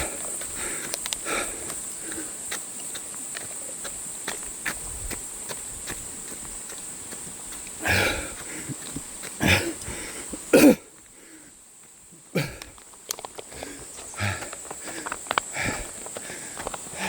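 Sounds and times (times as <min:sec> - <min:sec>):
light footsteps: 0:00.0 - 0:11.1, 0:12.6 - 0:17.0
runner gasping breaths: 0:00.0 - 0:11.7, 0:12.3 - 0:17.0.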